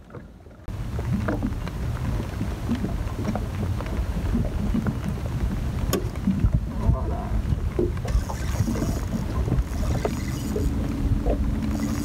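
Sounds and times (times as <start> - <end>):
wind buffeting microphone: 0.6 - 12.0.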